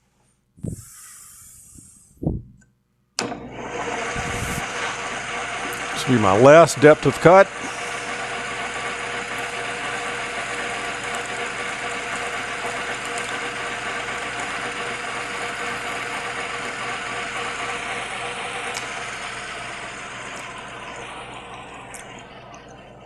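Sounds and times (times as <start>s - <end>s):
lathe humming: 0.6s - 2.6s, 3.2s - 23.0s
lathe cutting tool cutting metal: 3.2s - 22.6s.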